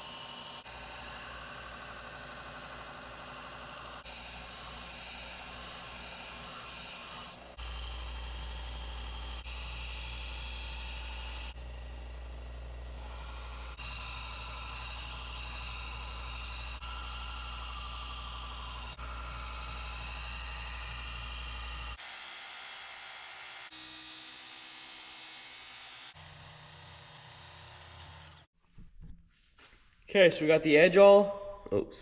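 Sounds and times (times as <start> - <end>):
electric grinder grinding blade: 0.0 - 28.5.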